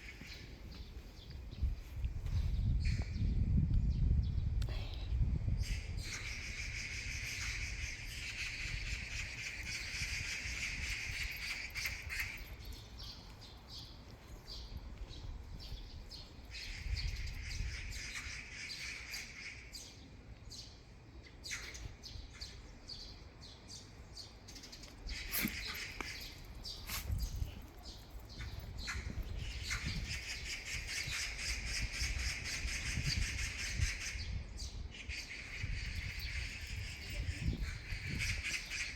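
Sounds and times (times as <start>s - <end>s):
birds chirping: 0.0s - 3.2s, 4.7s - 38.9s.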